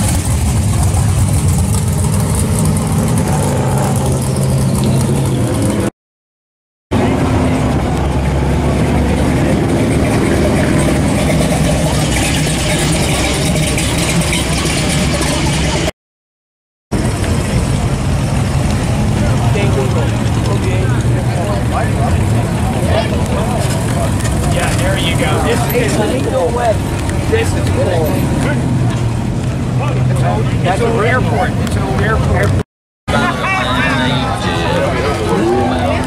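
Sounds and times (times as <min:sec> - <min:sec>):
car engines running at low speed: 0:00.0 - 0:05.9, 0:06.9 - 0:15.9, 0:16.9 - 0:32.6.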